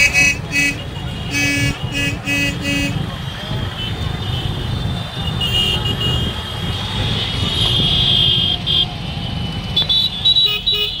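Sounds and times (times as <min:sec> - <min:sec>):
crowd voices: 0:00.0 - 0:11.0
heavy road traffic rumble: 0:00.0 - 0:11.0
high-pitched vehicle horns: 0:00.0 - 0:11.0.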